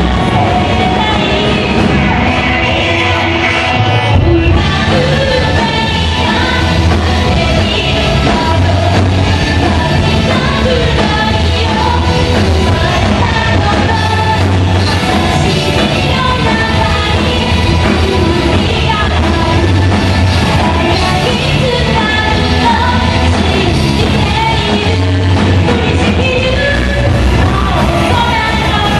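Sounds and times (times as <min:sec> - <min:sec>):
person singing: 0:00.0 - 0:28.9
rock band playing loud: 0:00.0 - 0:28.9.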